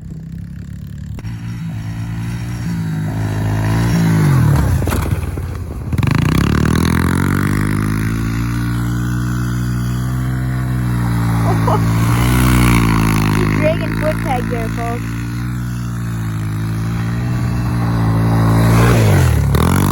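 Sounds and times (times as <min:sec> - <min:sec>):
pit bike engine revving: 0:00.0 - 0:05.1, 0:05.9 - 0:19.9.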